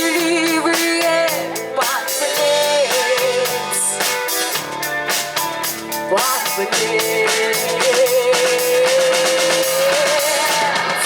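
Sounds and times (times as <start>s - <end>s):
bass drum: 0.0s - 11.0s
live rock band playing: 0.0s - 11.0s.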